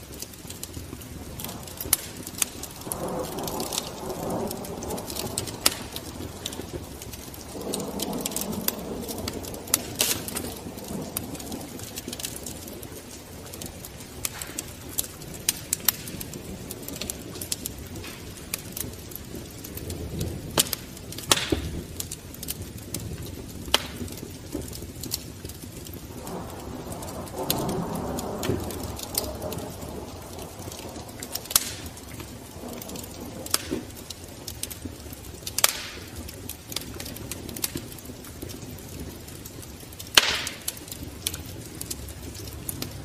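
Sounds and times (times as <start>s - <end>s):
low rush of flame: 0.0s - 43.0s
sharp pops of fire: 0.0s - 43.0s
wood fire crackling: 0.0s - 43.0s.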